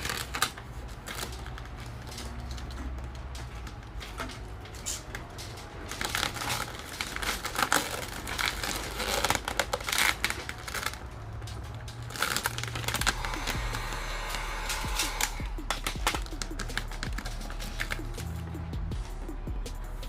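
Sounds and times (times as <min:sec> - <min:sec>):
vinyl film crinkling and crackling: 0:00.0 - 0:20.0.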